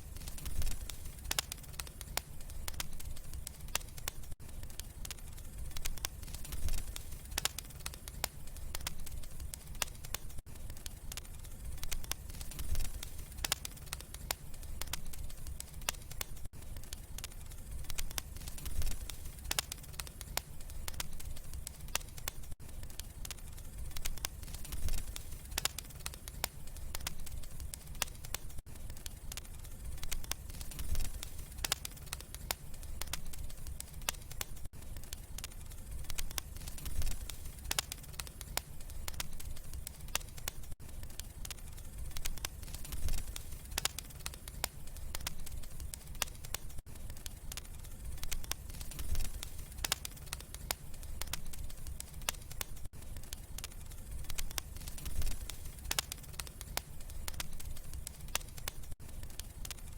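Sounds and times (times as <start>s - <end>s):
fire crackles and pops: 0.0s - 59.9s
fire flames rumbling: 0.0s - 59.9s.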